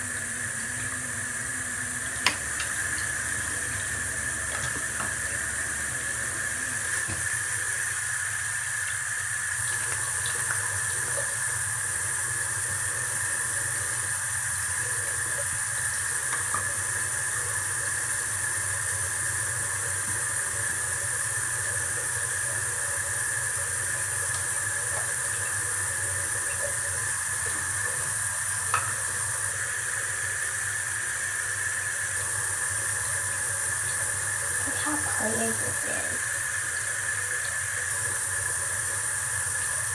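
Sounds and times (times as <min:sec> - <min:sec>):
steady hissing noise: 0:00.0 - 0:39.9.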